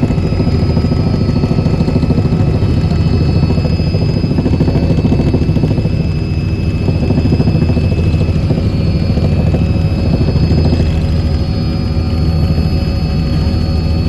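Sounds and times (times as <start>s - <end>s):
helicopter rotor beating: 0.0s - 14.0s
high whine: 0.0s - 14.0s.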